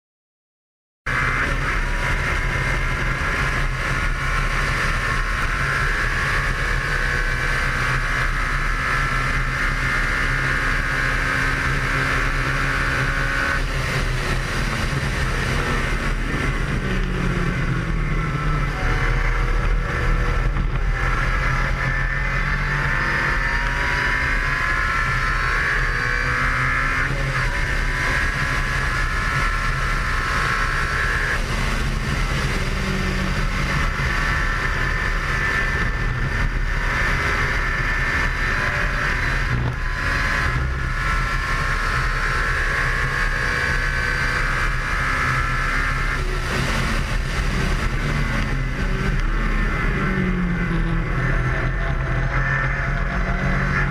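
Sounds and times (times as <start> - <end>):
race car engine running hard: 1.1 - 53.9.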